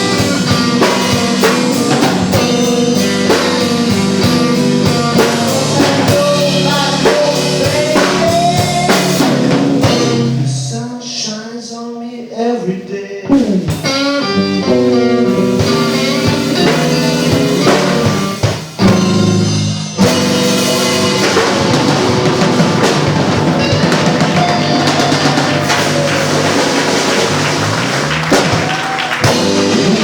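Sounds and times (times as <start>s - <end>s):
drum and cymbal roll: 0.0s - 10.4s, 15.3s - 30.0s
live blues band playing: 0.0s - 10.8s, 13.2s - 30.0s.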